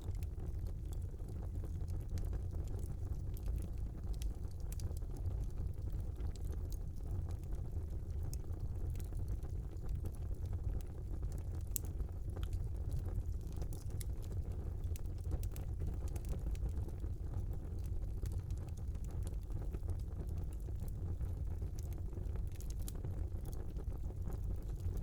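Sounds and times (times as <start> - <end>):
fire crackles and pops: 0.0 - 25.0
fire flames rumbling: 0.0 - 25.0.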